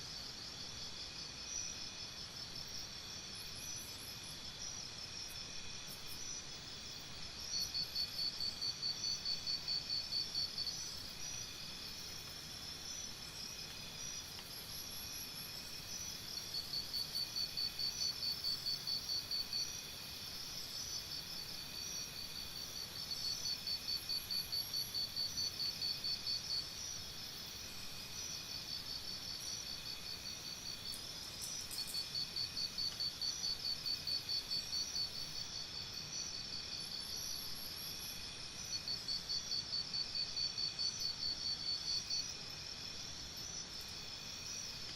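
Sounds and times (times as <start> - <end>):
pulsing insect trill: 1.4 - 44.9
shrill insect tones: 7.5 - 44.9.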